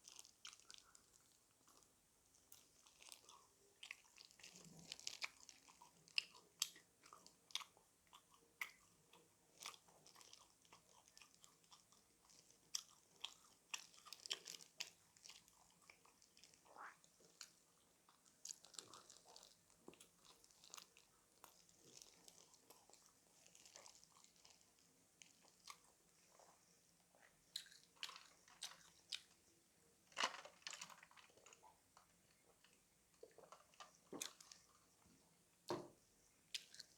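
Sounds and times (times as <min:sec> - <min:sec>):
person chewing crispy chicken: 0:00.0 - 0:29.5, 0:30.1 - 0:35.0, 0:36.4 - 0:36.9.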